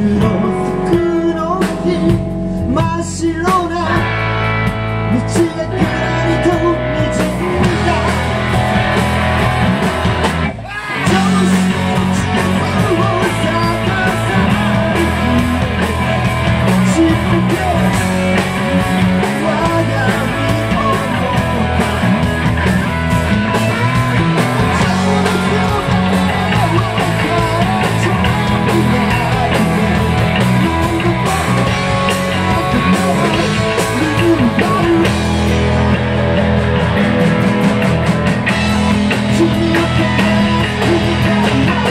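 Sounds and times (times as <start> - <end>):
drums: 0.0 - 41.9
electric guitar: 0.0 - 41.9
live rock band playing: 0.0 - 41.9.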